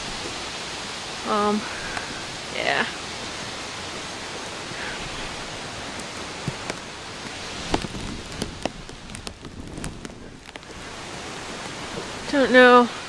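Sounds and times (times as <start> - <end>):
storm wind on microphone: 0.0 - 13.0.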